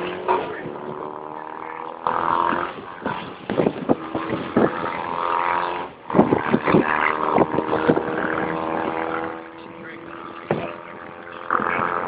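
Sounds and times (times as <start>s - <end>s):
motorcycle engines running loud: 0.0s - 12.0s.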